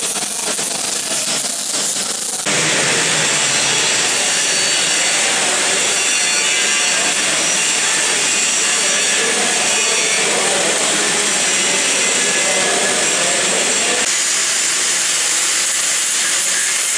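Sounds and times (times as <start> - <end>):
electric arc welding: 0.0 - 16.9.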